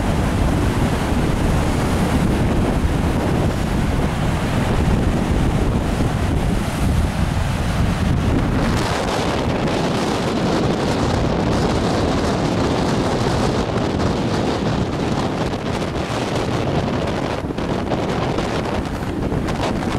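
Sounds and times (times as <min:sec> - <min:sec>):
sea surf washing on shore: 0:00.0 - 0:19.9
wind buffeting microphone: 0:00.0 - 0:19.9.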